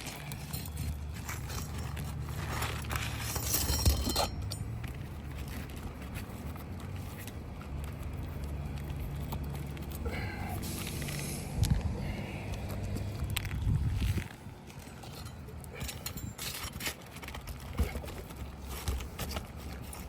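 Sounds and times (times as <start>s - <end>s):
shingles scraping and crackling: 0.0s - 11.8s, 12.7s - 20.0s
steady low rumble: 0.0s - 18.6s.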